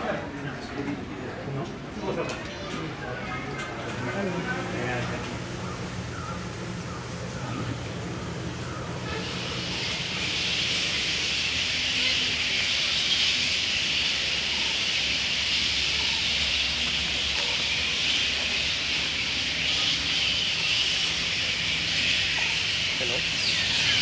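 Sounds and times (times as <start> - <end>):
high-pitched chorus of animal calls: 4.4 - 24.0.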